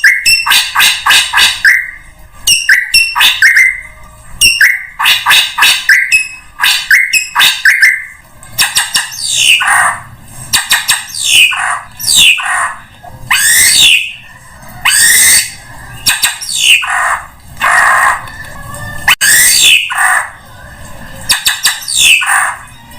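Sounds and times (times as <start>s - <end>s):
bird calling: 0.0s - 14.2s, 14.9s - 18.3s, 21.3s - 22.7s.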